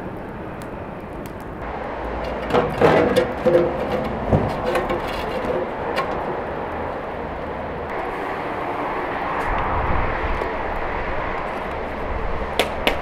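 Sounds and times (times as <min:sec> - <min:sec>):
samovar fire roaring: 0:00.0 - 0:13.0.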